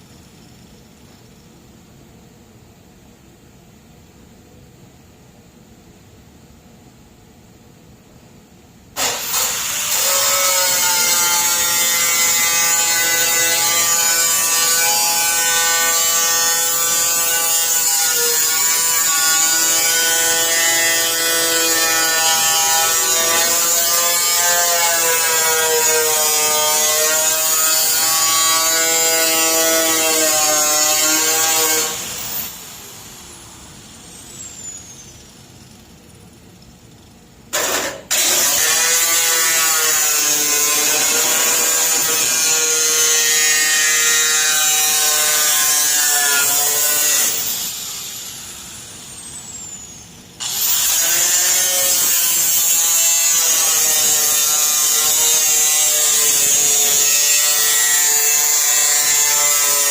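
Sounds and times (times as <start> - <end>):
cutoff wheel cutting steel: 9.0 - 35.3, 37.5 - 59.9.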